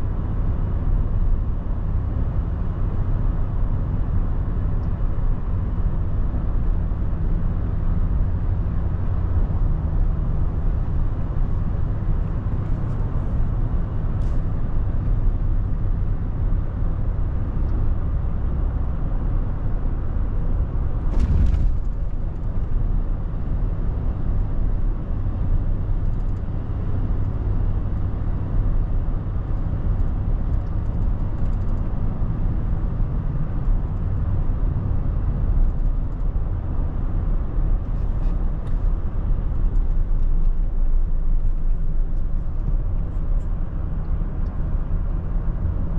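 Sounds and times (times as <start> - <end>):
car interior road rumble: 0.0 - 45.9.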